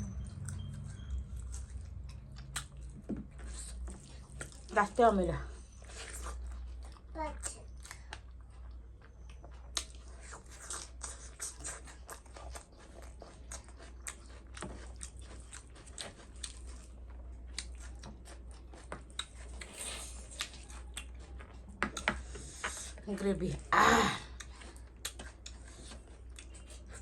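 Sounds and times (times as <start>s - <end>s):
person chewing food: 0.0s - 4.9s, 5.5s - 23.0s, 24.1s - 27.0s.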